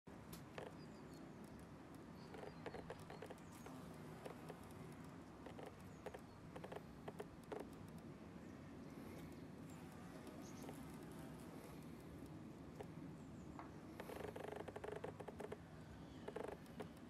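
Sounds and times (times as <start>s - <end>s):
low steady background hum: 0.1s - 17.0s
bee ticking and rustling in flowers: 0.2s - 8.1s, 9.0s - 13.1s, 13.9s - 15.6s, 16.2s - 17.0s.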